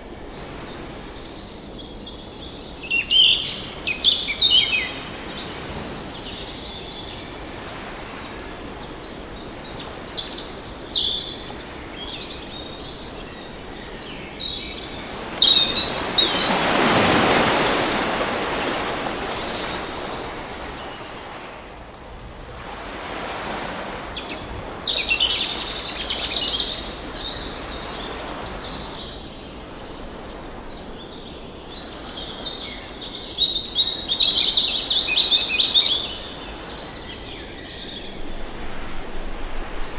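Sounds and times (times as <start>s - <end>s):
birds chirping: 0.0s - 21.5s, 24.2s - 39.9s
surf waves: 0.0s - 39.9s.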